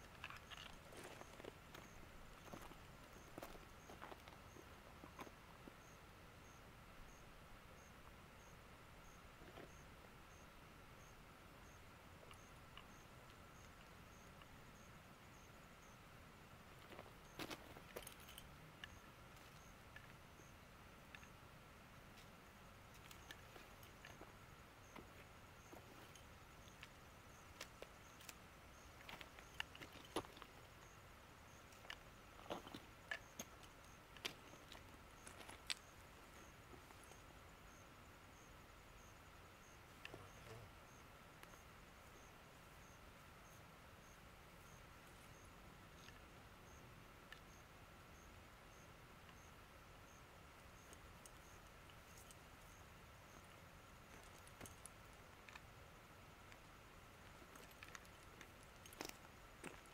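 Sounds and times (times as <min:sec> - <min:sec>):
faint steady tone: 0:00.0 - 0:59.9.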